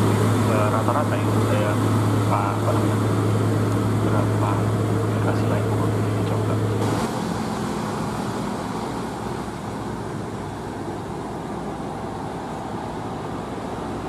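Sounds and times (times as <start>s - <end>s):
road and traffic noise: 0.0s - 14.0s
steady low hum: 0.0s - 14.0s
truck diesel engine running: 0.0s - 14.0s.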